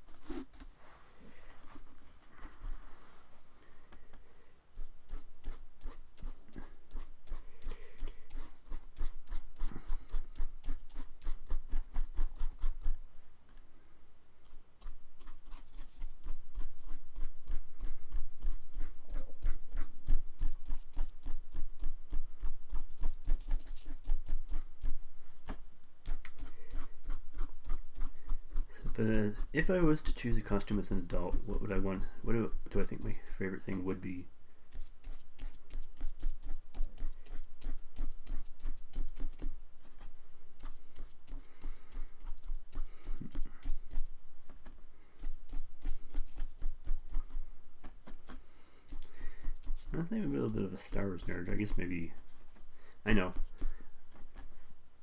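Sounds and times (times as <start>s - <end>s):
paintbrush dabbing on paper: 0.0s - 1.0s, 4.7s - 13.0s, 14.4s - 54.5s.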